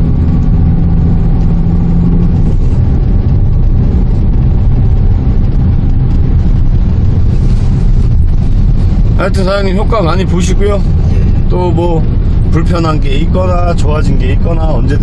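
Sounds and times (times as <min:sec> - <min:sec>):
engine and road noise: 0:00.0 - 0:15.0.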